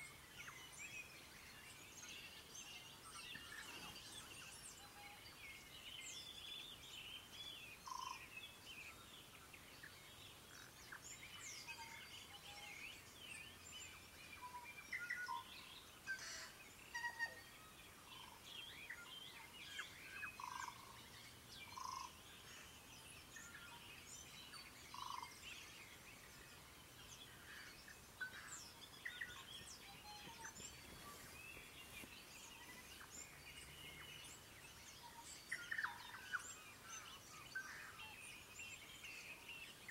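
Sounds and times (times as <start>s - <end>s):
low pure bird notes: 0.0s - 39.9s
songbirds chirping and trilling: 0.0s - 39.9s.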